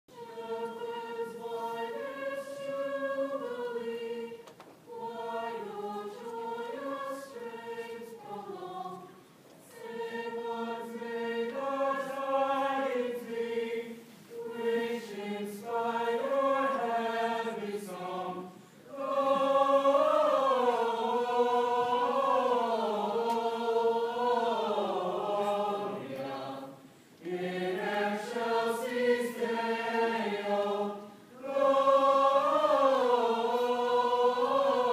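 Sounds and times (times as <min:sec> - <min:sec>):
choir singing: 0:00.1 - 0:34.9.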